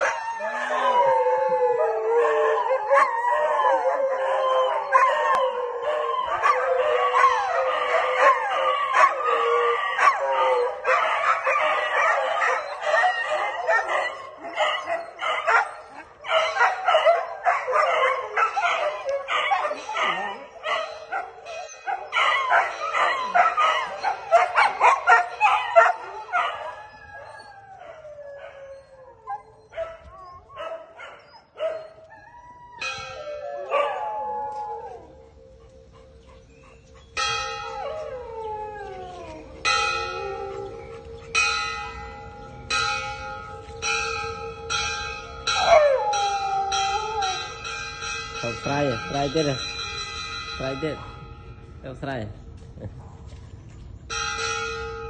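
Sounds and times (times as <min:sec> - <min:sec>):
dogs howling and yipping: 0:00.0 - 0:49.9.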